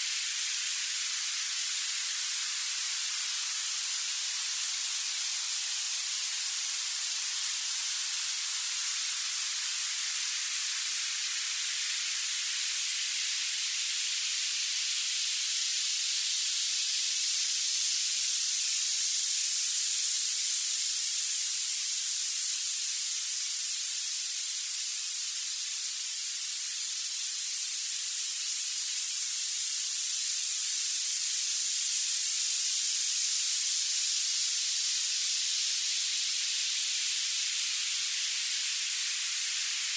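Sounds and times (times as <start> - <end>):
synthetic high-pitched hiss: 0.0 - 39.9.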